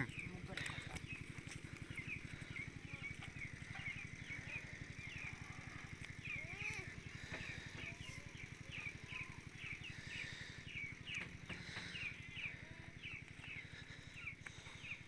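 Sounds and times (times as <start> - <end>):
bird chirping: 0.0 - 15.0
low steady throb: 0.0 - 15.0.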